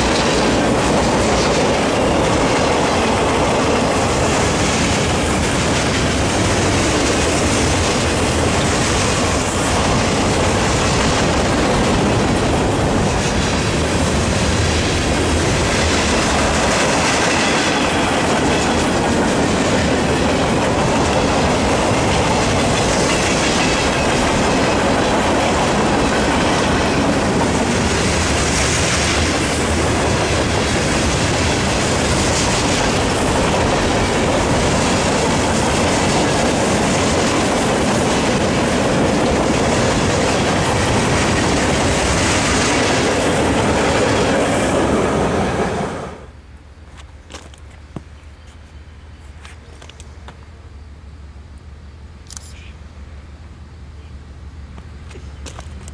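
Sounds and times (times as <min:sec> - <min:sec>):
steel wheels on rails: 0:00.0 - 0:50.6, 0:54.7 - 0:55.9
freight train rolling past: 0:00.0 - 0:52.2.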